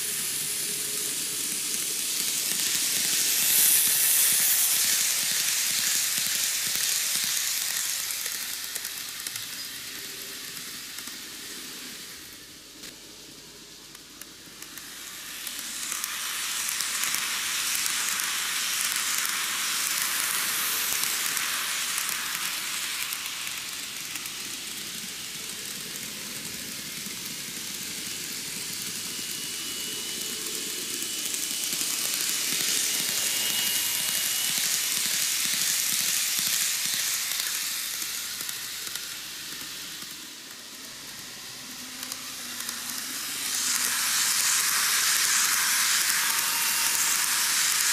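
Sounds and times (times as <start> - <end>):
model train wheels hissing on rails: 0.0 - 47.9
faint high whine: 7.5 - 47.9.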